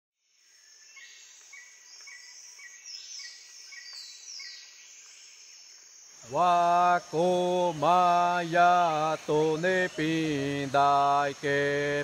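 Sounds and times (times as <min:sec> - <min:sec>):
high insect drone: 0:00.5 - 0:12.0.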